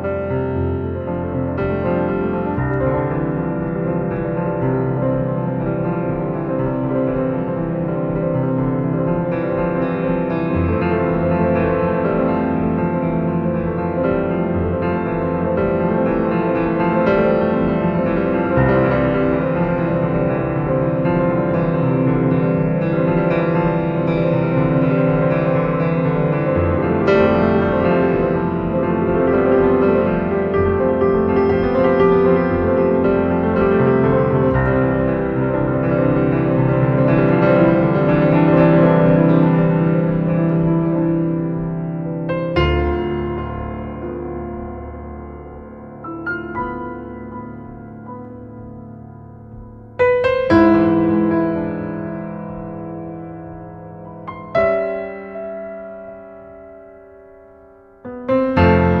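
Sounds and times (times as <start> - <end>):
piano background music: 0.0 - 59.0.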